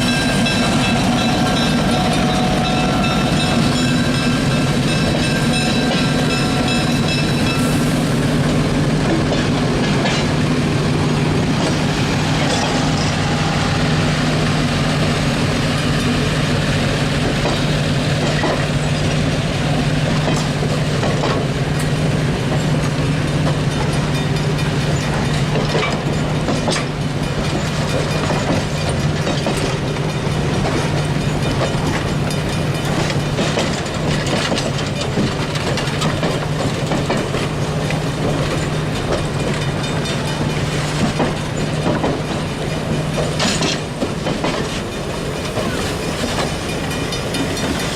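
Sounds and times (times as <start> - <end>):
wheels clicking over rail joints: 0.0 - 7.6, 8.4 - 13.4, 17.1 - 47.9
train rumbling and rattling: 0.0 - 47.9.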